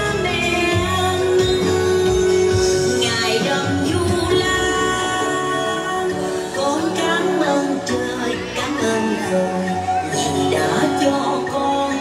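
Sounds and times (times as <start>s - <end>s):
instrumental backing music: 0.0s - 12.0s
woman singing into a microphone: 0.0s - 12.0s.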